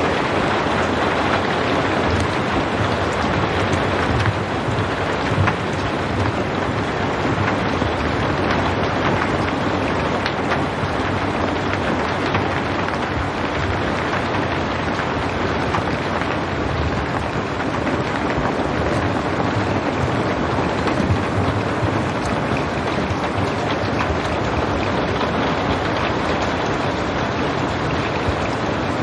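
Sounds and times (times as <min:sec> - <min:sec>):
steady rain patter: 0:00.0 - 0:29.0.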